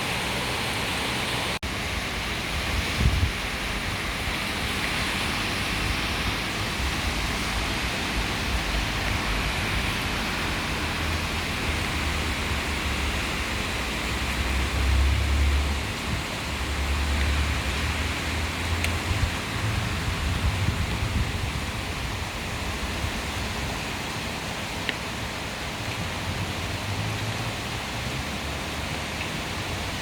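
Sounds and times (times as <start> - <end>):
heavy rain downpour: 0.0 - 30.0.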